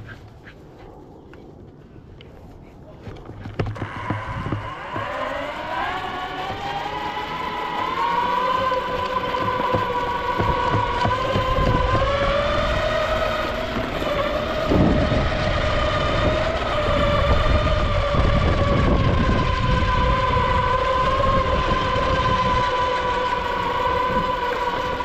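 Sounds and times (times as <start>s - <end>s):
wheels rolling on concrete: 2.5s - 25.0s
electric motors whining: 3.2s - 25.0s.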